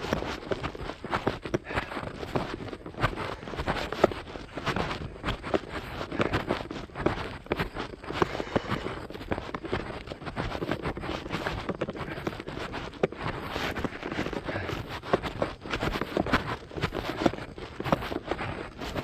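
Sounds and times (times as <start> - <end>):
running footsteps: 0.0 - 19.0.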